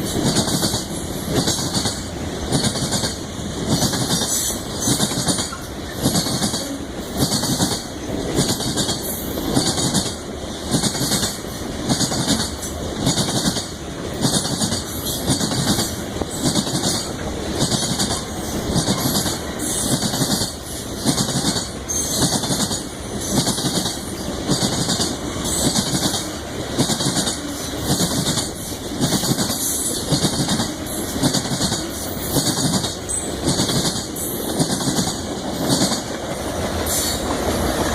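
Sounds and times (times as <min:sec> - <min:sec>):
freight train rumble: 0:00.0 - 0:37.9
train wheels clicking over rail joints: 0:00.0 - 0:37.9.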